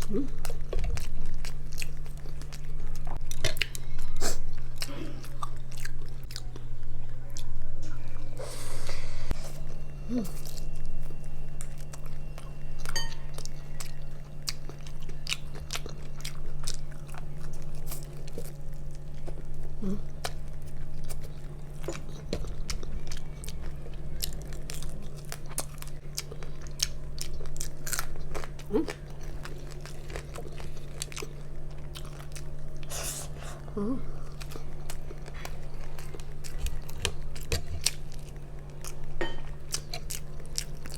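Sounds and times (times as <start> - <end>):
chewing crunchy food: 0.0 - 8.3, 9.3 - 40.9
low hum: 0.0 - 40.9.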